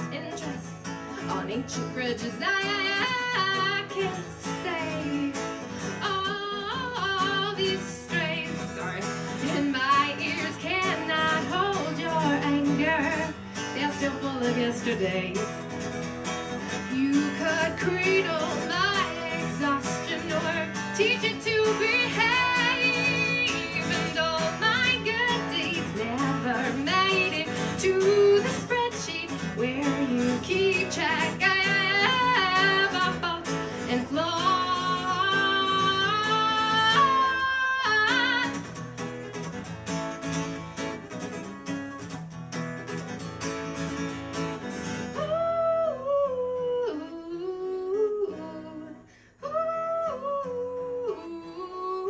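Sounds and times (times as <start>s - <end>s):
woman singing: 0.0s - 15.8s, 16.6s - 38.8s, 44.9s - 52.0s
acoustic guitar: 0.0s - 52.0s.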